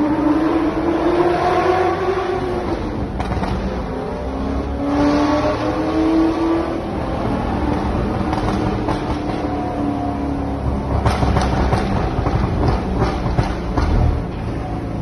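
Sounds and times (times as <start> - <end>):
sports car engines accelerating: 0.0 - 15.0.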